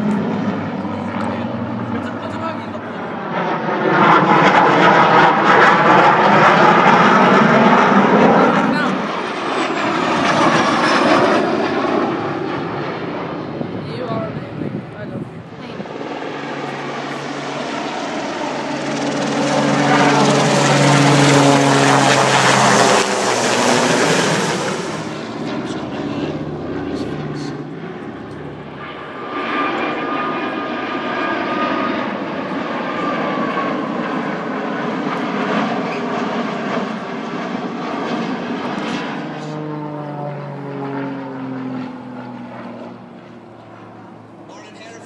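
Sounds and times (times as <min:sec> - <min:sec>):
airplane flying past: 0:00.0 - 0:45.0.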